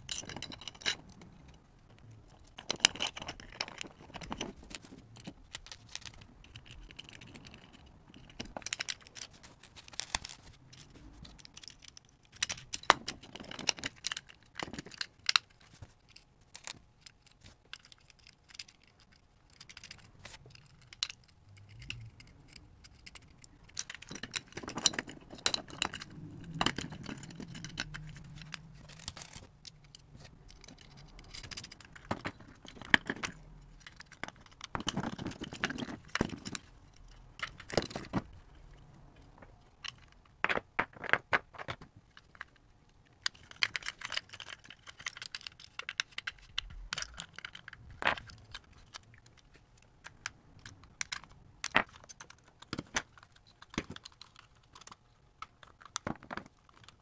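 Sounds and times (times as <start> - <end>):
small clicks and clinks of handling: 0.0 - 57.0.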